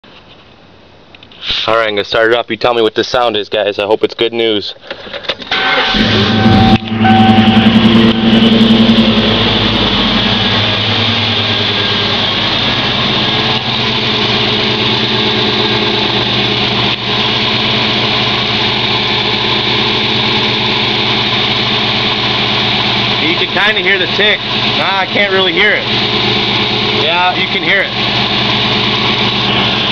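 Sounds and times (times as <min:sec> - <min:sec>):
car engine idling: 0:05.4 - 0:29.9.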